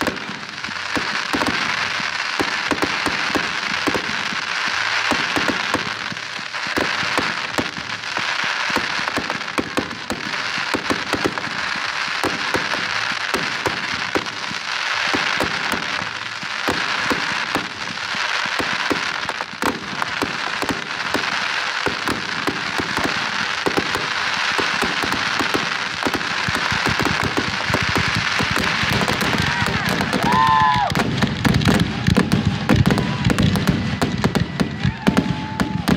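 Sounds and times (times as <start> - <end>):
fireworks crackling: 0.0 - 35.9
sharp firework pops: 0.0 - 35.9.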